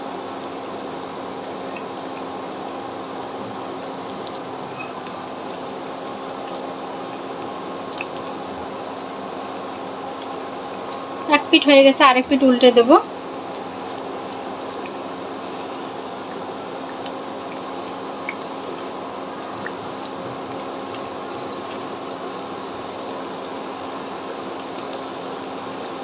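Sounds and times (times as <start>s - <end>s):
hot oil sizzling in a pan: 0.0s - 26.0s.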